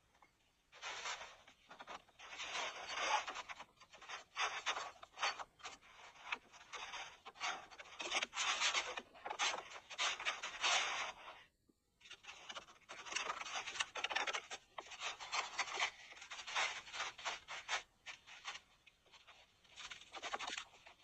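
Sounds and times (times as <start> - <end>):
rubbing and scratching: 0.0 - 21.0.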